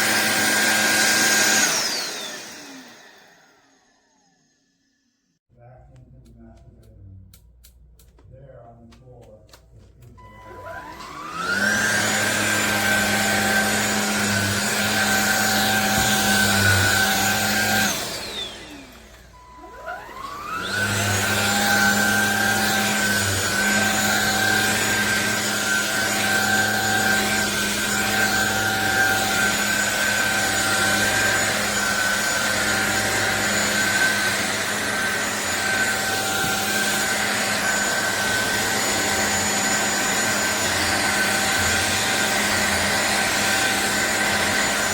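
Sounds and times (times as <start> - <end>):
vacuum cleaner motor whine: 0.0 - 5.2, 10.1 - 44.9.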